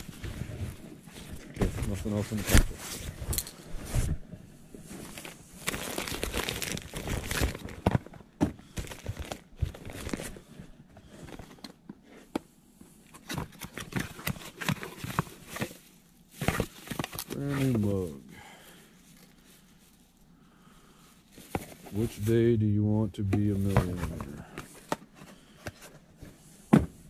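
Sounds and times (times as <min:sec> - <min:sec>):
packaging rustling and crinkling: 0:00.0 - 0:04.2, 0:04.8 - 0:11.8, 0:13.0 - 0:20.2, 0:21.2 - 0:22.5, 0:23.2 - 0:26.4.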